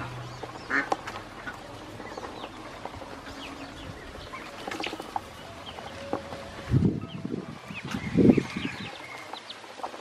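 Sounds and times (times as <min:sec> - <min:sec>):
ducklings peeping: 0:00.0 - 0:10.0.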